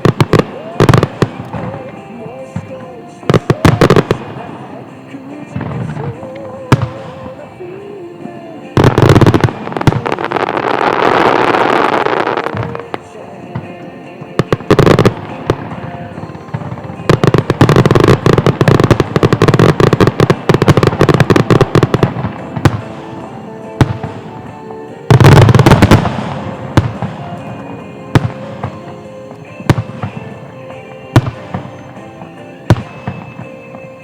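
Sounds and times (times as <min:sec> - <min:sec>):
big fireworks boom: 0:00.0 - 0:34.0
faint music: 0:00.0 - 0:34.0
fireworks bangs and crackles: 0:00.0 - 0:34.0.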